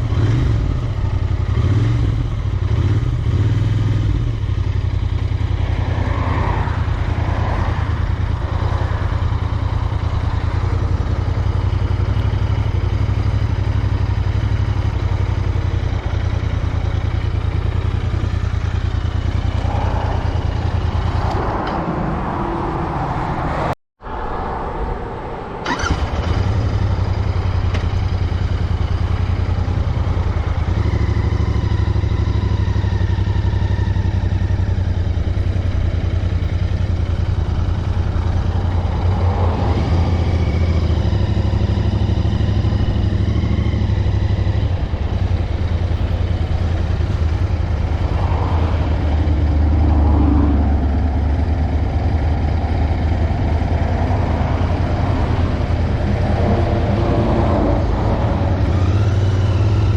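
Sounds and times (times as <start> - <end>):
motorcycle engine running: 0.0 - 21.7, 25.6 - 59.9.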